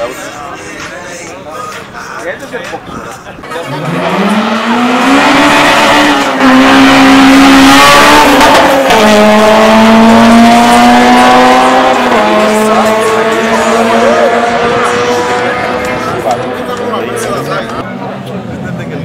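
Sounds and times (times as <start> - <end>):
car engine accelerating hard: 3.5 - 19.0.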